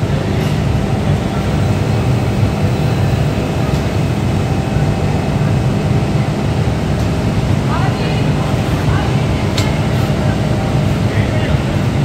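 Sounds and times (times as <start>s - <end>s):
fabric-spreading machine running: 0.0s - 12.0s
factory machinery hum: 0.0s - 12.0s.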